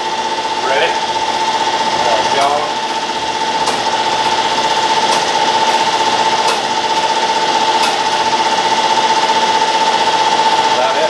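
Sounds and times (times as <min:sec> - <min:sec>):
grinder machine whine and clatter: 0:00.0 - 0:11.0.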